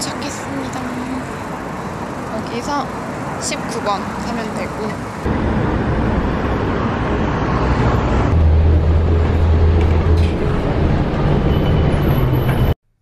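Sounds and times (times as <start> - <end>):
bus engine drone: 0.0 - 12.8
city traffic: 0.0 - 12.8.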